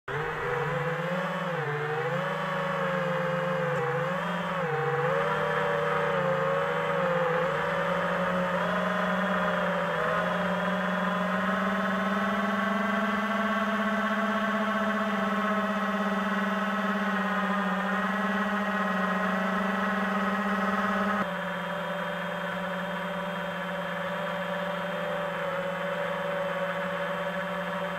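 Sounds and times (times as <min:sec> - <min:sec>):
quadcopter motors whining: 0:00.1 - 0:27.9.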